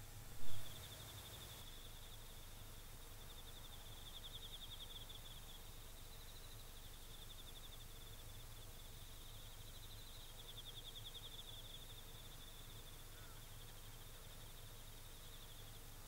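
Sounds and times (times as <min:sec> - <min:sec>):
low steady hum: 0:00.0 - 0:16.0
crickets trilling: 0:00.4 - 0:16.0.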